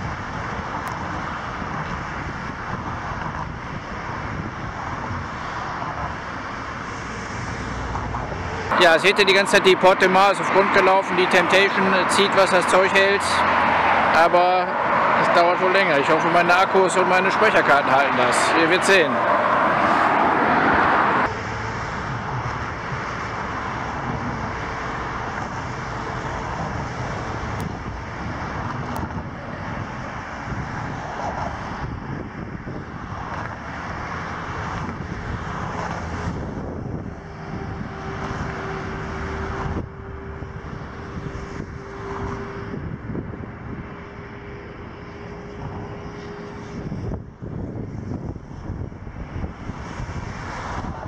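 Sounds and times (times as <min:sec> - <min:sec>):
engine drone: 0:00.0 - 0:51.0.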